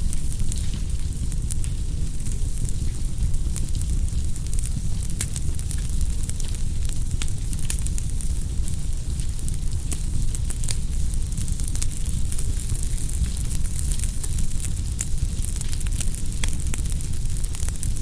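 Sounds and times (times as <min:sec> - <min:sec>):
fire crackling and popping: 0:00.0 - 0:18.0
flames rumbling: 0:00.0 - 0:18.0.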